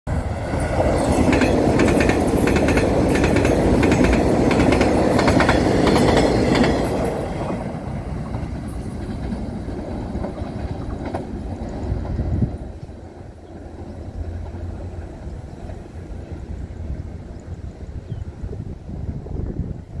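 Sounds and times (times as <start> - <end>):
train wheels clicking over rails: 0.1 - 17.3
electric train passing at speed: 0.1 - 20.0.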